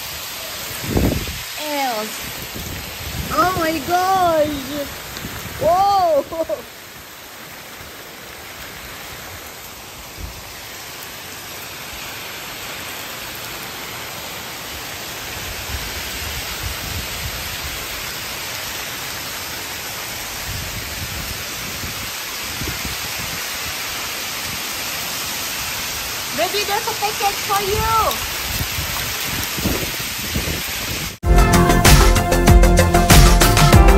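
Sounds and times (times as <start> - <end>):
hail and rain on concrete: 0.0 - 31.2.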